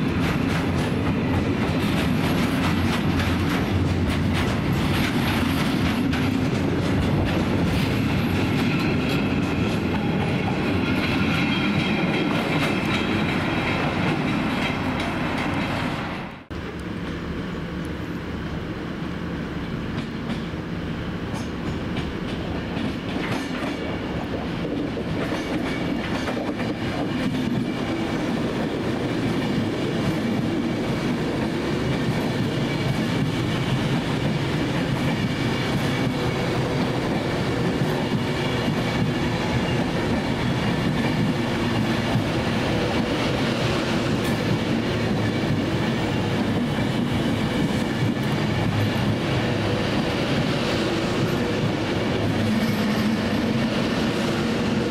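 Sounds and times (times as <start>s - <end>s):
electric train running noise: 0.0s - 54.9s.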